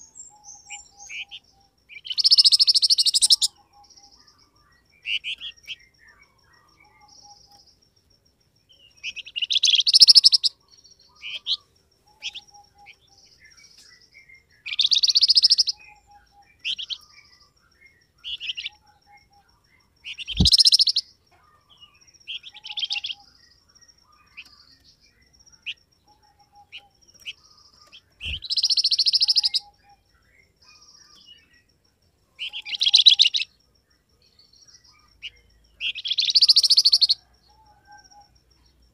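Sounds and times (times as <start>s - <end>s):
songbird chittering: 0.0s - 7.9s, 8.6s - 38.9s.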